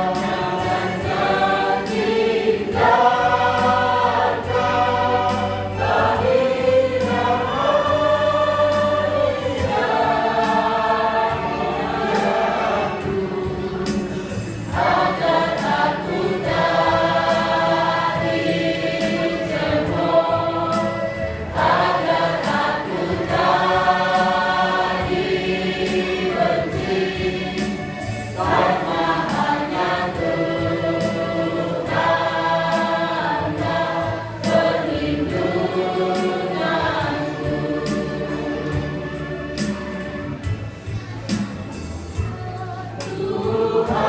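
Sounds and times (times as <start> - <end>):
choir singing in harmony: 0.0 - 44.0.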